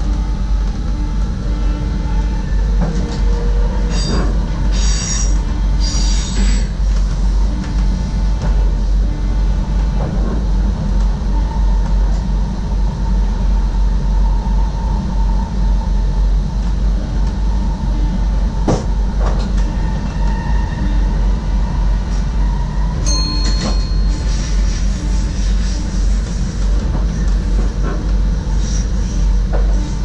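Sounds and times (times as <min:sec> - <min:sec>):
electric train rumble with faint whine: 0:00.0 - 0:30.0.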